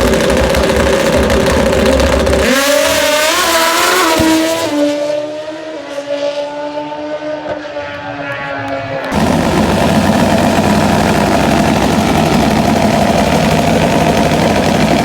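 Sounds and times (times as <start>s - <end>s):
drag motorcycle engine at full throttle: 0.0s - 15.0s.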